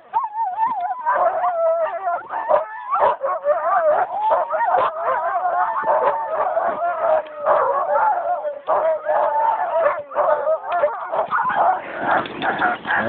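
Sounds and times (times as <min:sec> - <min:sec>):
huskies barking and howling: 0:00.0 - 0:13.0.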